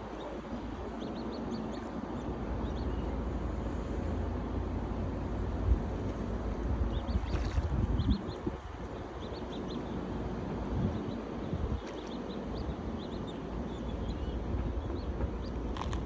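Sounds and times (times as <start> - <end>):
small birds chirping: 0.0 - 3.3, 6.0 - 16.0
low rumble of wind: 0.0 - 16.0.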